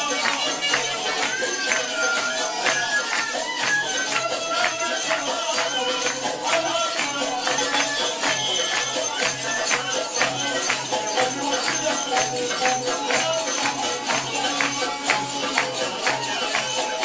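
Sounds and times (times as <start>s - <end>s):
upbeat belly-dance music: 0.0s - 17.0s.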